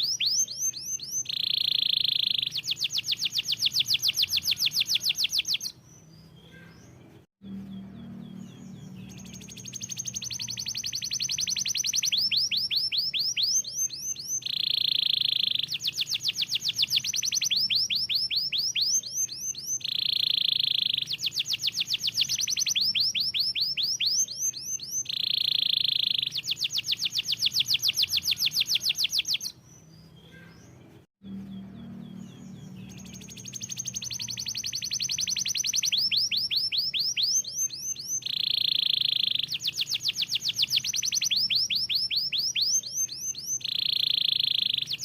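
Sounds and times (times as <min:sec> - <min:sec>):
canary singing trills: 0:00.0 - 0:45.0.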